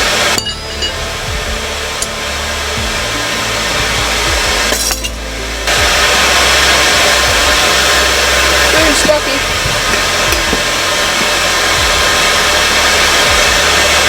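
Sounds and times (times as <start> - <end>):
forge roaring: 0.0 - 14.0.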